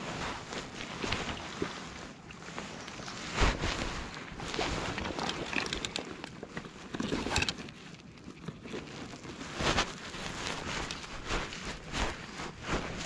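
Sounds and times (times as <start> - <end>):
crackly rustling: 0.0 - 13.0.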